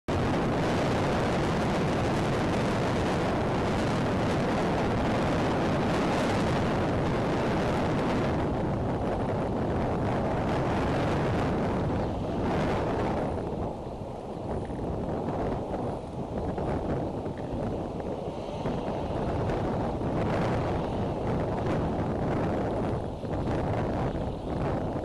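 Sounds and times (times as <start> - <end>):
strong wind on microphone: 0.1 - 25.0.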